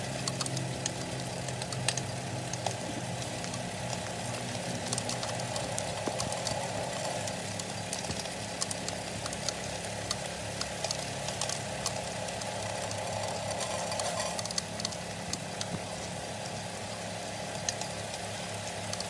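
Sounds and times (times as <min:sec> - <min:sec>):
washing machine motor humming: 0:00.0 - 0:19.0
sieve clicking and rattling: 0:00.1 - 0:16.2.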